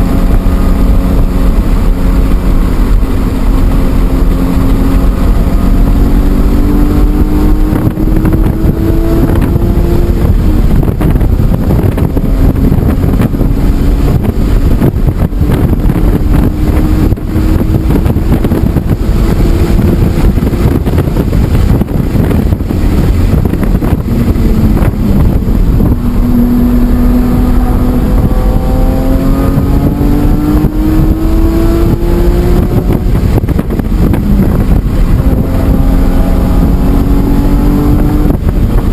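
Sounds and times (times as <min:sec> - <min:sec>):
car engine at high revs: 0:00.0 - 0:38.9.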